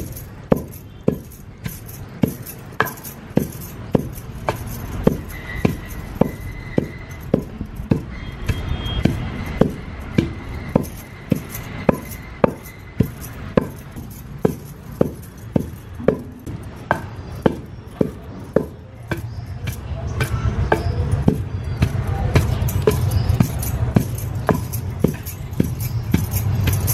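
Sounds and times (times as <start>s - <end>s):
rhythmic knocking of food preparation: 0.0s - 26.9s.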